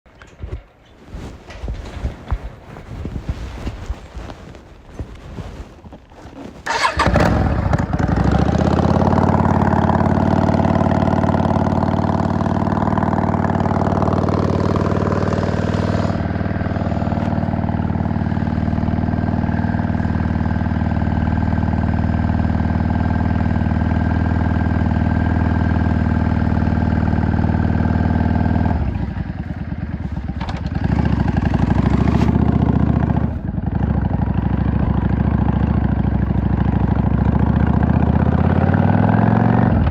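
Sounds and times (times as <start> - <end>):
motorcycle engine idling: 6.6 - 38.7.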